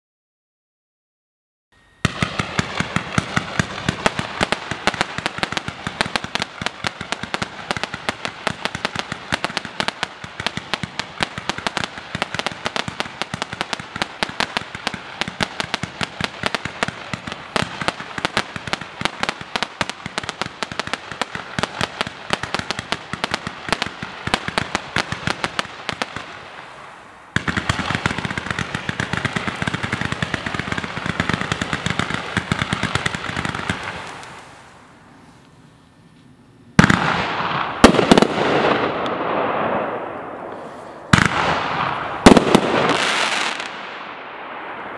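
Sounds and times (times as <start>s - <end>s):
fireworks barrage: 1.8s - 44.9s.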